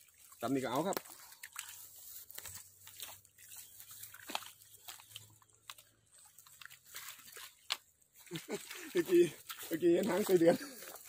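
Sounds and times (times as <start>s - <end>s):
hands digging through wet mud: 0.0s - 11.0s.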